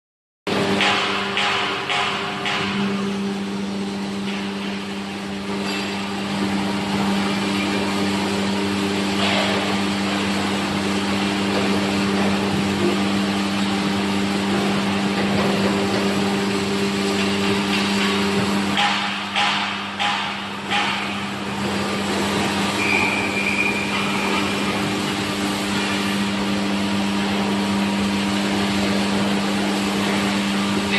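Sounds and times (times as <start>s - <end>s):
hydraulic power unit humming: 0.5s - 30.9s.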